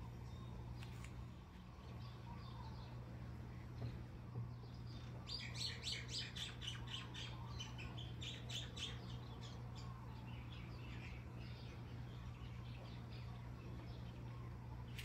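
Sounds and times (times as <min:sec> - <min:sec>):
songbird chirping: 0:00.0 - 0:15.0
steady low hum: 0:00.0 - 0:15.0.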